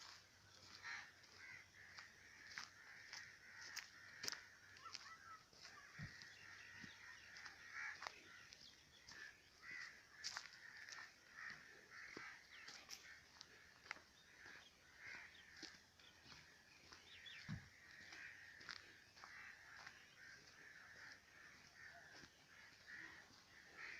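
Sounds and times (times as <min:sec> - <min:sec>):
faint birdsong chirps: 0:00.0 - 0:23.9.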